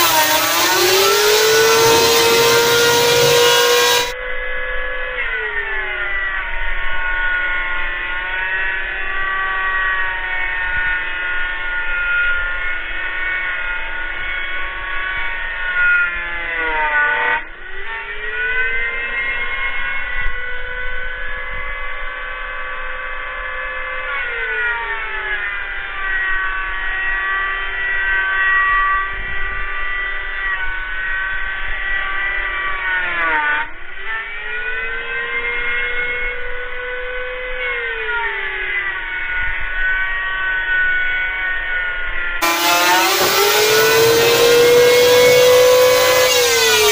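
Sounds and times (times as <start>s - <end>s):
electric wood planer whining: 0.0s - 46.9s.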